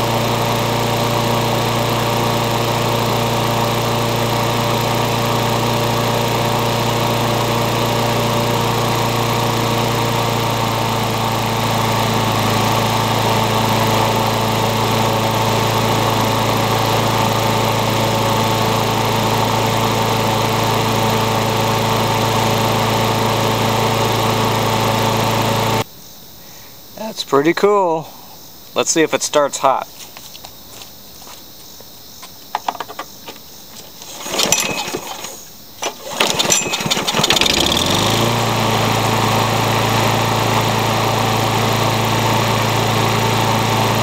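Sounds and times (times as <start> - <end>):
lawn mower engine running: 0.0 - 25.9, 32.5 - 44.0.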